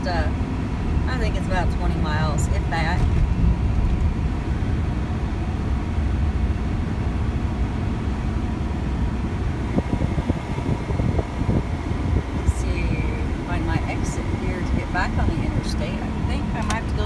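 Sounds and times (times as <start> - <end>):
vehicle cabin road and engine rumble: 0.0 - 17.0.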